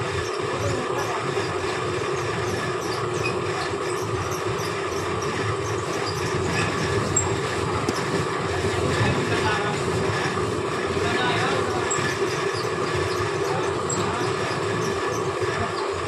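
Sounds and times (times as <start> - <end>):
constant machine hum: 0.0 - 16.0
fabric checking machine running: 0.0 - 16.0.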